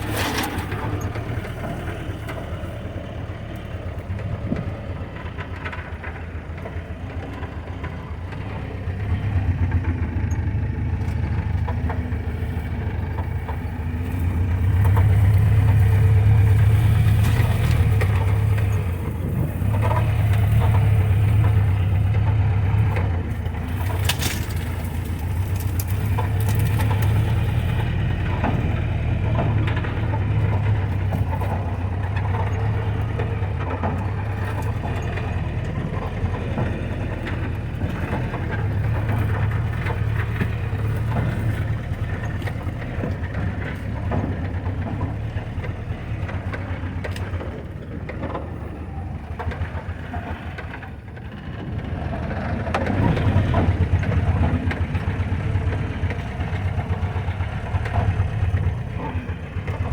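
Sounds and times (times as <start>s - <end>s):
engine droning: 0.0s - 59.9s
knocks and crunches under vehicle: 0.0s - 59.9s.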